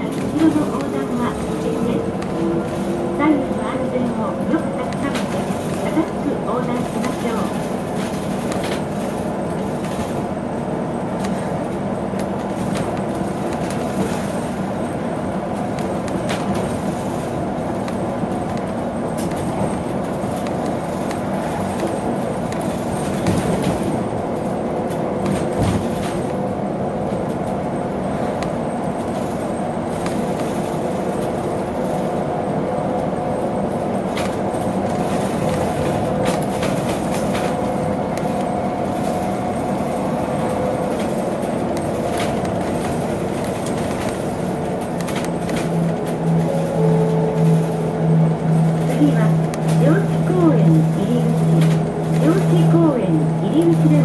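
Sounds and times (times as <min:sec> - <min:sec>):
interior rattles and clicks: 0:00.0 - 0:54.0
road and tyre rumble: 0:00.0 - 0:54.0.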